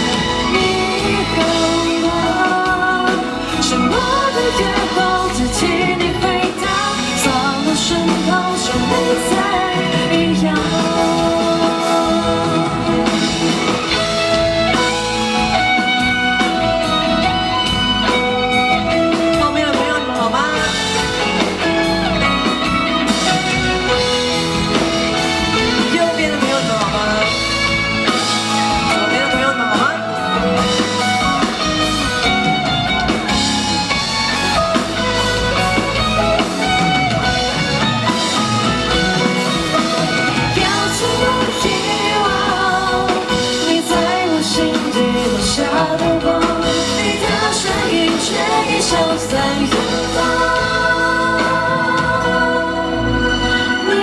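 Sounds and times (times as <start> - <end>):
drums: 0.0 - 54.0
electric guitar notes: 0.0 - 54.0
live band playing: 0.0 - 54.0.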